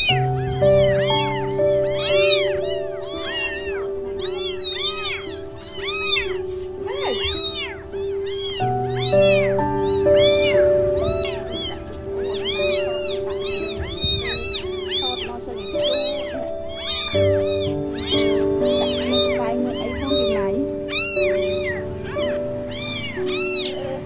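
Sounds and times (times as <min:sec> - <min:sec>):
background music: 0:00.0 - 0:24.0
kittens meowing: 0:00.0 - 0:24.0.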